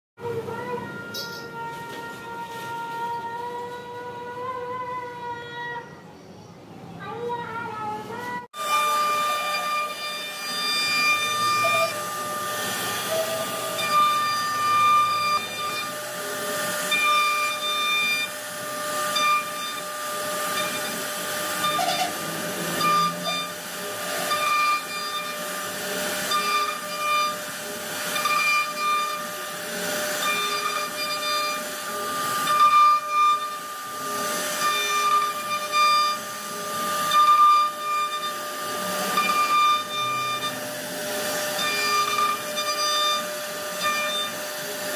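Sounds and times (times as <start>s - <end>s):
router spindle whining: 8.6s - 44.9s.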